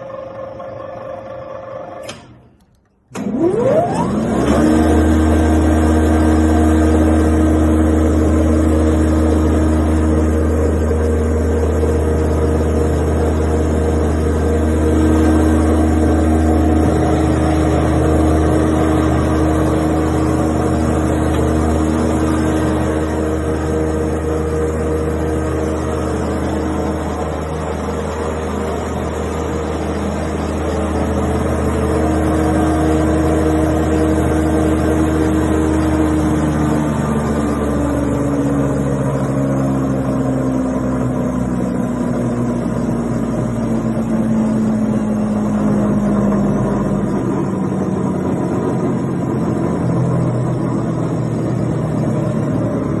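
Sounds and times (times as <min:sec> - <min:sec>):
planer motor humming: 0:03.1 - 0:53.0.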